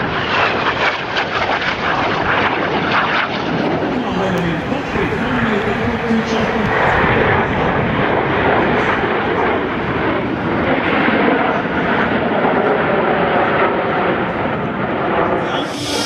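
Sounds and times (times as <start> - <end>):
jet aircraft flying over: 0.0 - 16.0.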